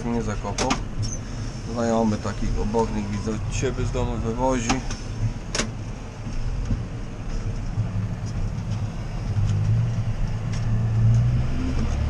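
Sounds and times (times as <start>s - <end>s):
tractor diesel engine running: 0.0s - 11.1s.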